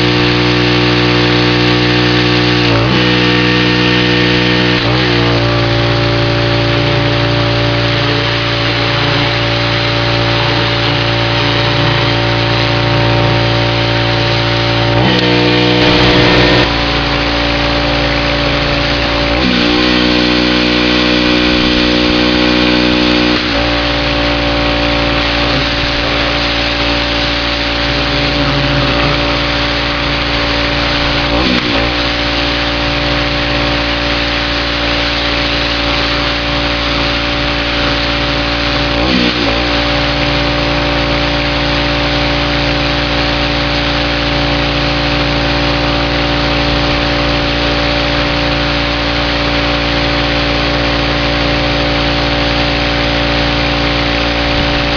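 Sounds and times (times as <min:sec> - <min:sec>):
pressure washer engine running: 0:00.0 - 0:54.9
high-pressure spray hiss: 0:00.3 - 0:54.9.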